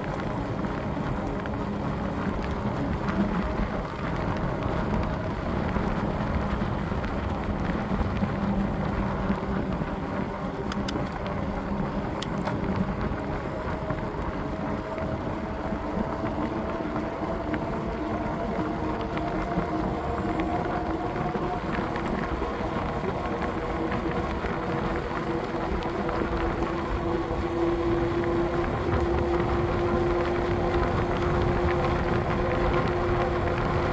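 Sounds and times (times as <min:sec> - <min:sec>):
rushing road noise: 0:00.0 - 0:33.9
wind on microphone: 0:00.0 - 0:33.9.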